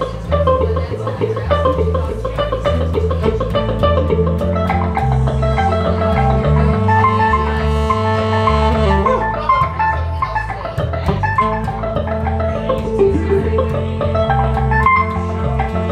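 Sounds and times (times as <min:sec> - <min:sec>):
electric bass line: 0:00.0 - 0:15.9
electric guitar playing: 0:00.0 - 0:15.9.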